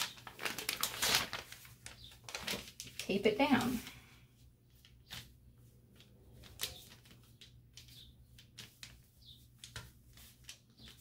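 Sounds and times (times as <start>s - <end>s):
faint rustling of paper sheet: 0.0s - 11.0s.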